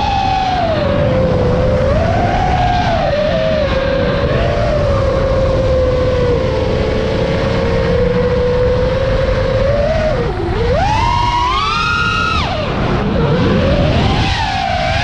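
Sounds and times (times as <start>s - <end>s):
drone motors whining: 0.0s - 15.0s
wind rush on microphone: 0.0s - 15.0s.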